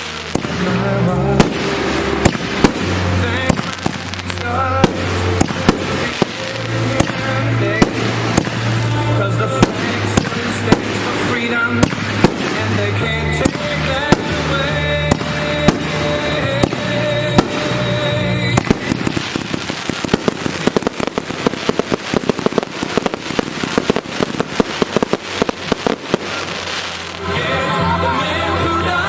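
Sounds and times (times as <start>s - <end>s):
fireworks bangs and booms: 0.0s - 27.4s
music: 0.0s - 29.0s.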